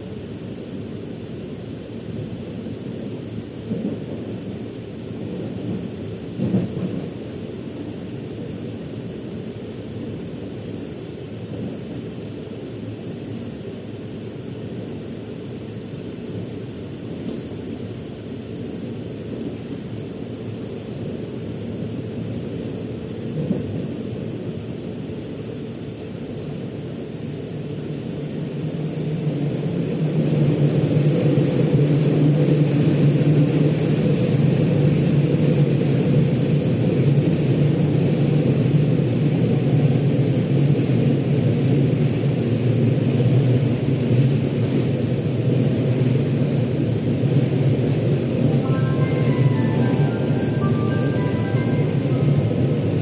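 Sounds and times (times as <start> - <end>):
train rumbling inside carriage: 0.0 - 53.0.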